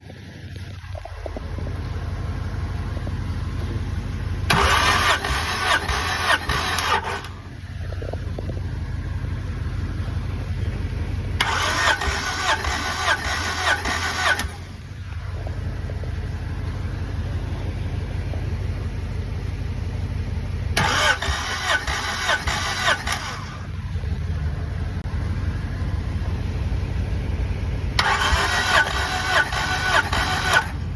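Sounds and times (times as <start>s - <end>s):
steady low hum: 0.0s - 30.9s
engine cranking by starter: 0.2s - 26.3s, 27.8s - 30.9s.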